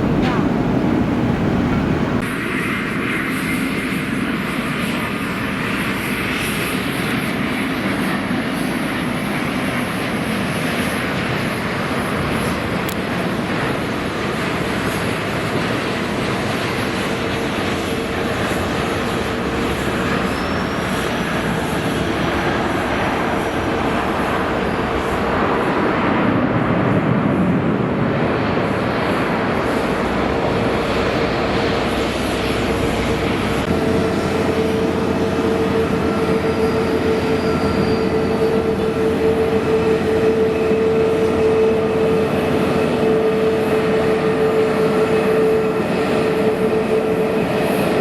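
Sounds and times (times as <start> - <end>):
airliner engines running: 0.0 - 48.0.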